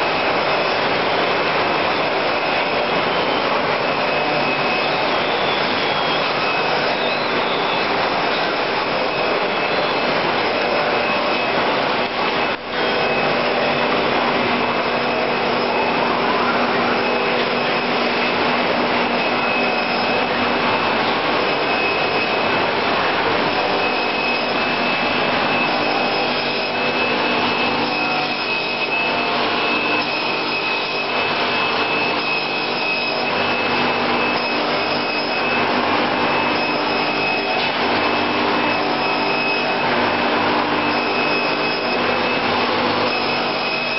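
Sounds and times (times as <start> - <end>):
binding machine whirring: 0.0 - 43.9
high constant whine: 0.0 - 43.9.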